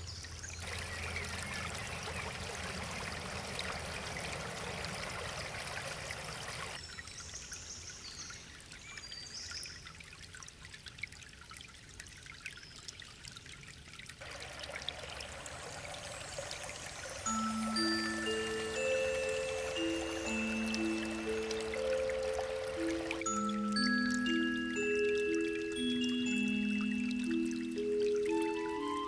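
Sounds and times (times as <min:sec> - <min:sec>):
brook trickling over stones: 0:00.0 - 0:29.0.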